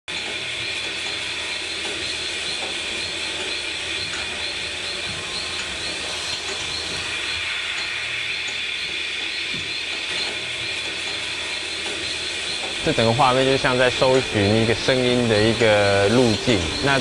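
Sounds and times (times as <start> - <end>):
hissing screeching noise drone: 0.6 - 17.0.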